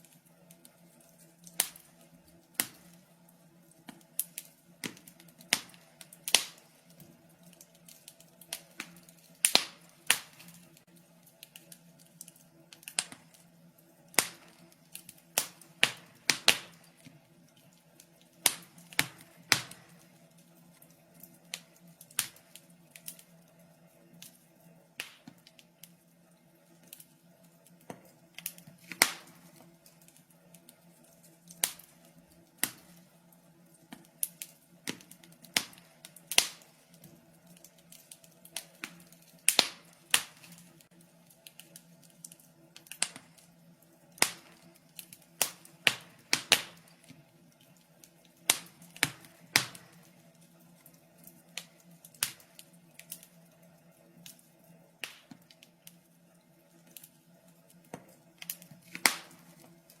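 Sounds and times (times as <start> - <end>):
faint steady hum: 0.0 - 60.0
wood fire crackling: 0.0 - 60.0.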